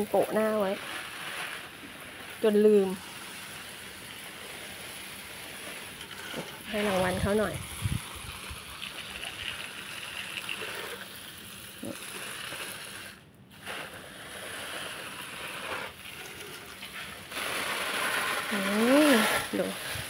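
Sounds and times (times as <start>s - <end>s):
hose spraying water on plants: 0.0s - 20.0s
spray drumming on plastic bag: 0.0s - 20.0s.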